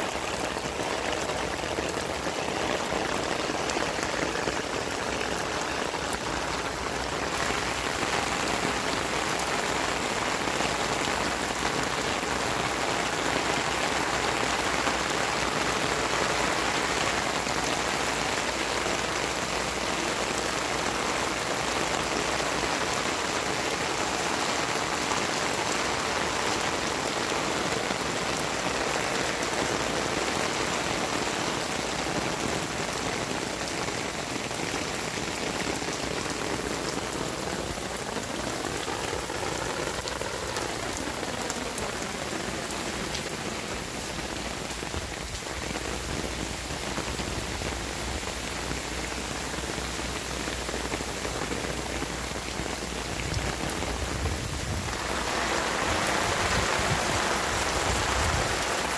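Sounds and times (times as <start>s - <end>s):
rain on concrete and gravel: 0.0s - 58.9s.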